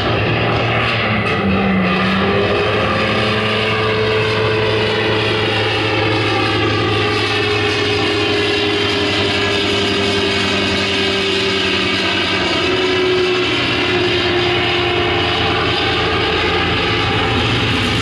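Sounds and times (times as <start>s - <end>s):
propeller aircraft engine drone: 0.0s - 18.0s.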